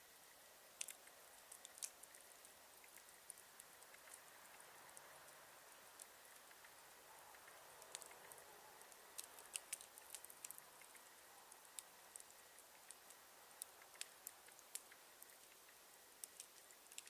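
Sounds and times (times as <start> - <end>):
faint hiss: 0.0 - 17.0
campfire crackling and popping: 0.6 - 17.0.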